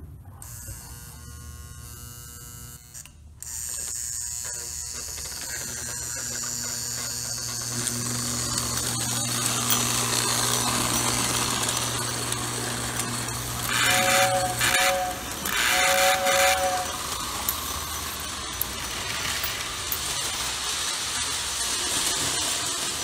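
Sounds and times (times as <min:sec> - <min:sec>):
toy train motor whirring: 0:00.4 - 0:23.0
toy train wheels rattling: 0:03.4 - 0:23.0.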